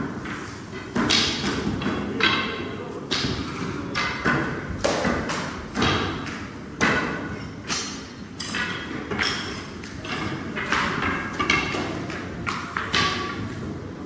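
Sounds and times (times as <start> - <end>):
wooden rods knocking on steel tables: 0.0 - 14.0.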